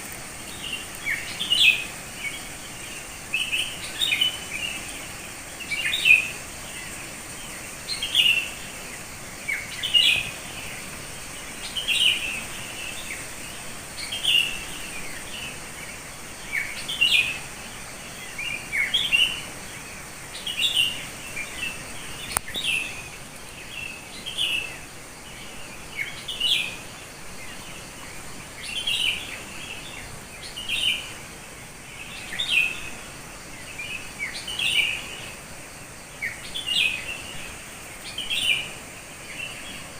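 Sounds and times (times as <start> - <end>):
bird chirping: 0.3 - 39.9.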